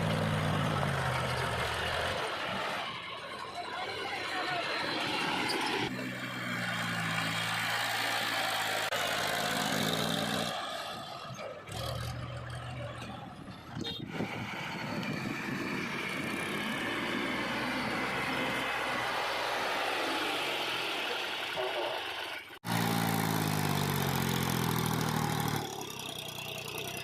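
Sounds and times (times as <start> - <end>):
heavy diesel engines running: 0.0 - 27.0.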